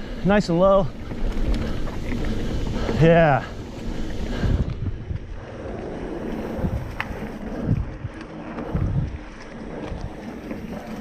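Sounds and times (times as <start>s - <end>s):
bike rolling over dirt trail: 0.0s - 11.0s
wind buffeting microphone: 0.0s - 11.0s.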